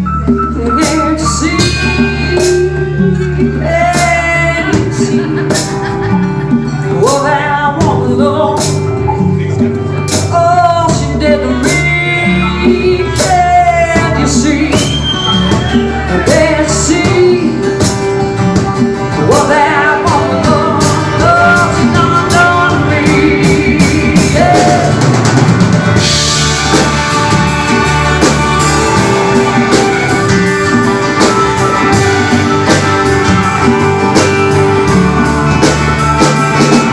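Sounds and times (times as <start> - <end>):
bending guitar lines: 0.0 - 36.9
country rock band playing: 0.0 - 36.9
drum kit beat: 0.0 - 36.9.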